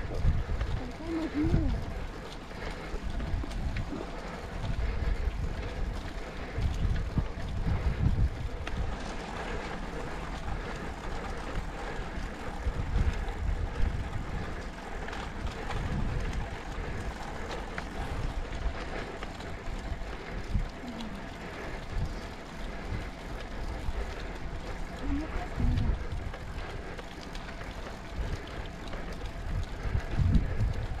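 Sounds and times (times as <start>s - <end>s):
bike tyres rolling on asphalt: 0.0s - 31.0s
wind buffeting microphone: 0.0s - 31.0s.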